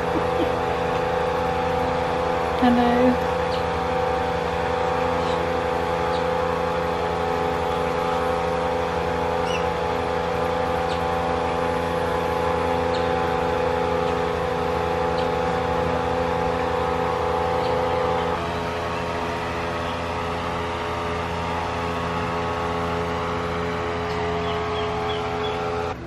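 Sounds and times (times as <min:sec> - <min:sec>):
steady mechanical drone: 0:00.0 - 0:26.0.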